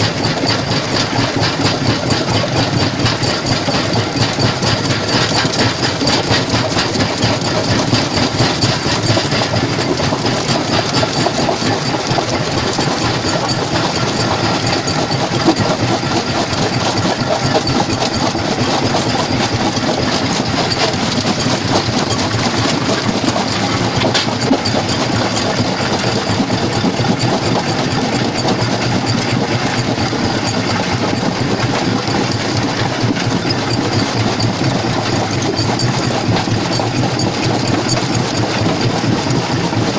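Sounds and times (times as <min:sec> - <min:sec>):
rock crusher clattering: 0:00.0 - 0:39.9.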